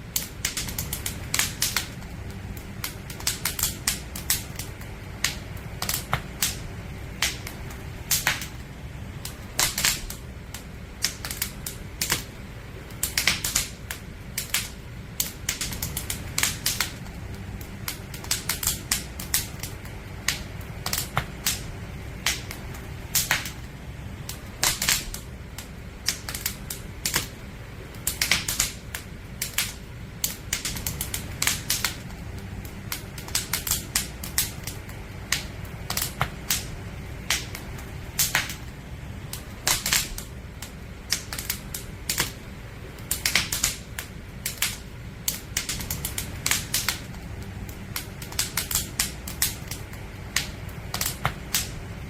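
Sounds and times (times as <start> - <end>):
campfire crackling and popping: 0.0 - 52.0
steady low rumble: 0.0 - 52.0.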